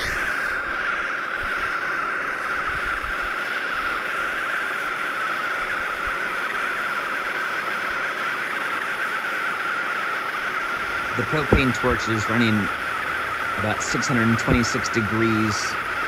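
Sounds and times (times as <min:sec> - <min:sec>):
propane torch flame hissing: 0:00.0 - 0:16.0.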